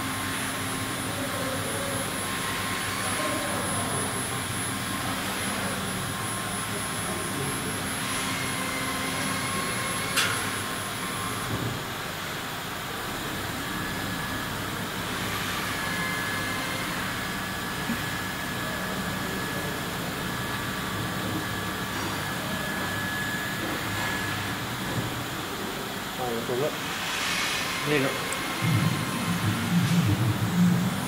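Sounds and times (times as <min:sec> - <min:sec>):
whirring machine noise: 0:00.0 - 0:31.0.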